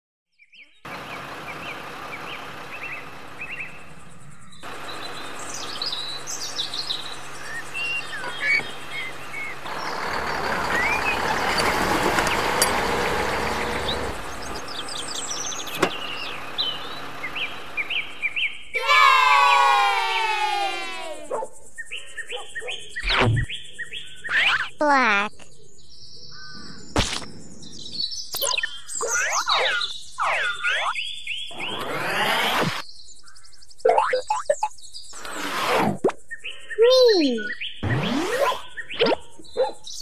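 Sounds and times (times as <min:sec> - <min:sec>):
small birds chirping: 0:00.3 - 0:19.9, 0:20.5 - 0:40.0.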